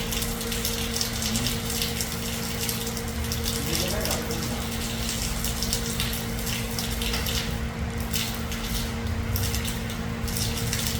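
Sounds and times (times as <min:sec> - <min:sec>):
water running and splashing: 0:00.0 - 0:10.9.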